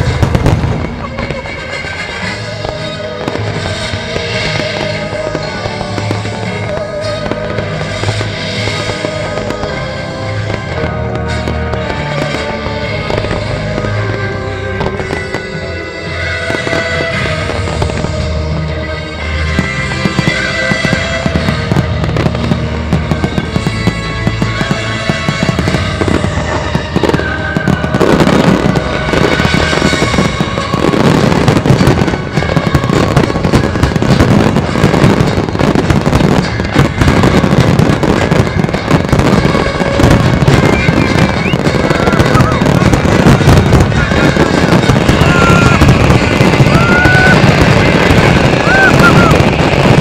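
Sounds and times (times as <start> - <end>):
fireworks bursting: 0.0 - 50.0
music soundtrack: 0.0 - 50.0.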